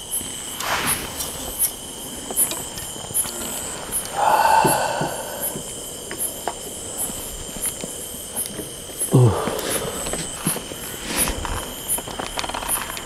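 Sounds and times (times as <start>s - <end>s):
crickets chirping: 0.0s - 13.0s
insect drone: 0.0s - 13.0s.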